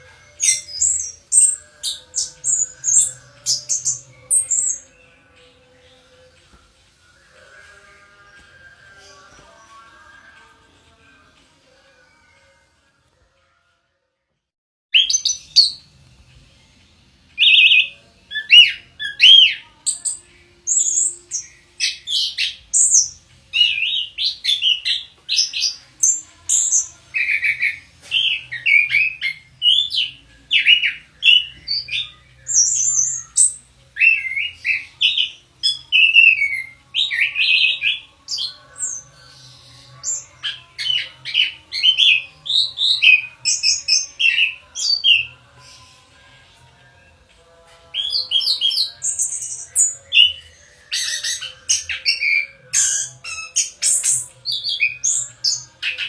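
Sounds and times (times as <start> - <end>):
thrush singing: 0.0 - 13.9, 15.0 - 56.0.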